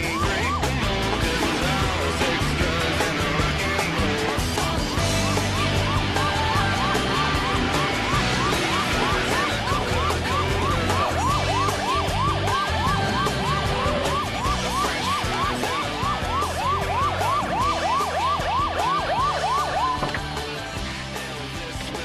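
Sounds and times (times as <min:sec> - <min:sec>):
police siren yelping: 0:00.0 - 0:20.9
background music with beat: 0:00.0 - 0:22.0.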